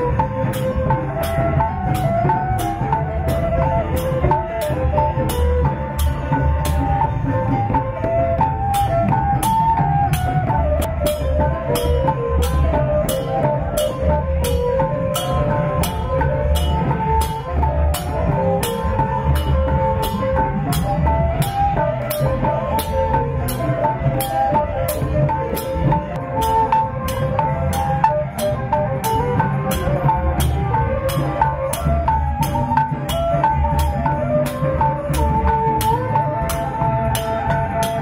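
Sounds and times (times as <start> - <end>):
hand drums beating: 0.0 - 38.0.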